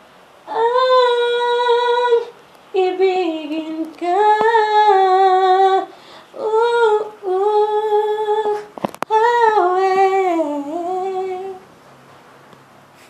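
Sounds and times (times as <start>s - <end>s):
woman singing unaccompanied: 0.4s - 11.7s.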